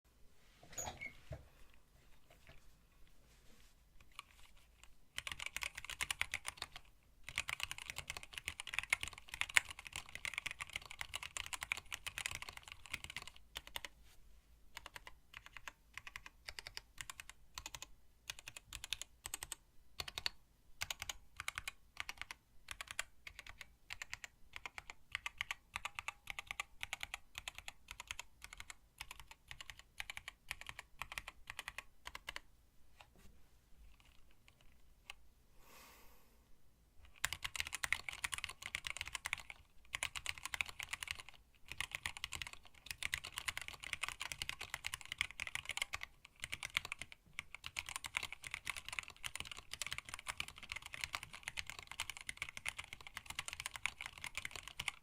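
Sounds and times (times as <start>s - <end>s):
mechanical keyboard typing: 4.0s - 13.9s, 14.7s - 32.5s, 33.8s - 35.2s, 37.0s - 55.0s.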